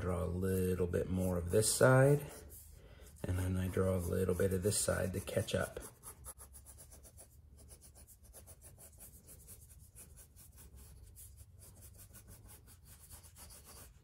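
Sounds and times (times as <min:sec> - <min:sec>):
pencil scratching on paper: 0:00.1 - 0:14.0.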